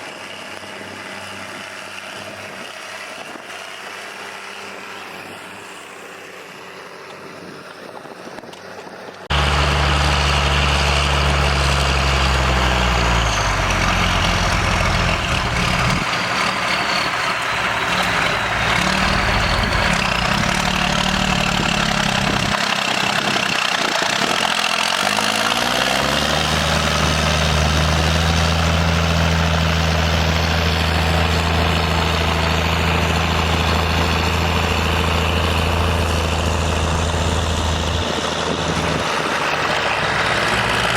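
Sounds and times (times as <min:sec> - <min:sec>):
diesel tractor engine working: 0:00.0 - 0:40.9.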